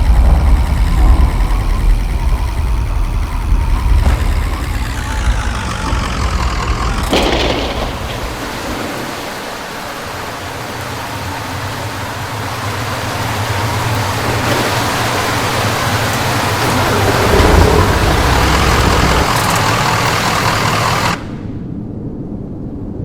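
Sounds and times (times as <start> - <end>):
rain hiss: 0.0 - 21.4
car engine and road noise: 0.0 - 21.6.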